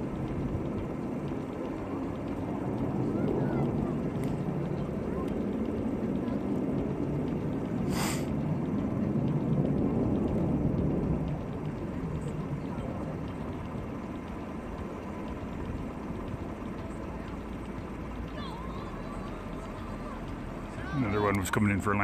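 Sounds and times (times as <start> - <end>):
distant jet rumble: 0.0 - 22.0.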